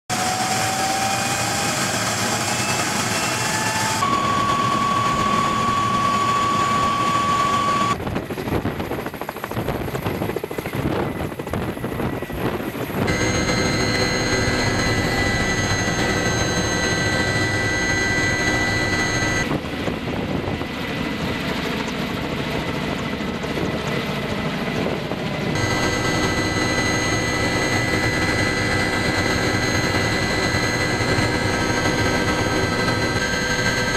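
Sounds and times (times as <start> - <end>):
helicopter turbine whine and rotors: 0.1 - 33.9.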